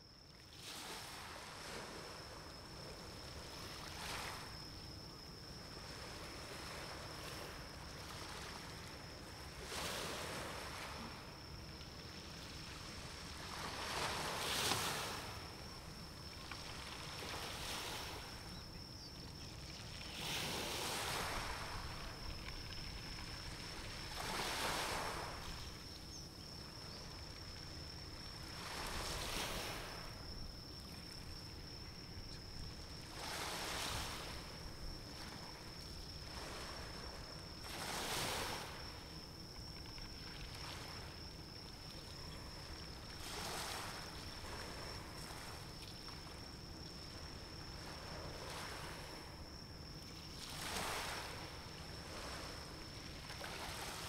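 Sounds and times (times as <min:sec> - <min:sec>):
small waves washing in: 0:05.6 - 0:18.5, 0:19.7 - 0:25.9, 0:26.6 - 0:54.0.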